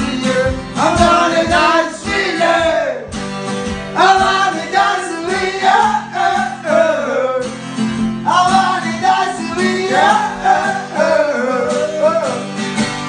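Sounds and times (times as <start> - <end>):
man singing: 0.0 - 3.1, 3.9 - 7.6, 8.2 - 12.6
acoustic guitar strumming: 0.0 - 13.0.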